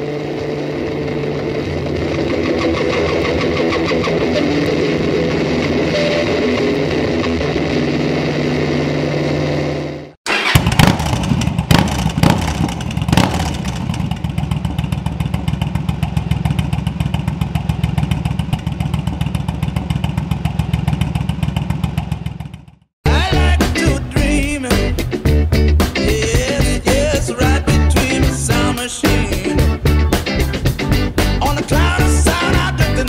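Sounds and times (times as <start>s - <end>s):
motorcycle engine revving and idling: 0.0s - 5.9s, 6.7s - 33.0s.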